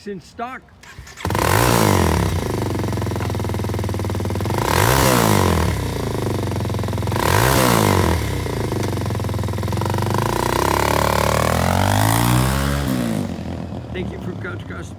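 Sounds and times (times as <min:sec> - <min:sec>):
motorcycle engine idling and revving: 0:00.8 - 0:14.9.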